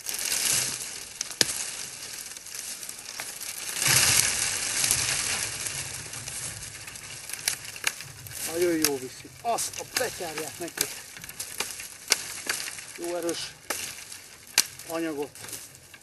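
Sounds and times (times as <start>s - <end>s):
twigs crackling and rustling: 0.0s - 16.0s.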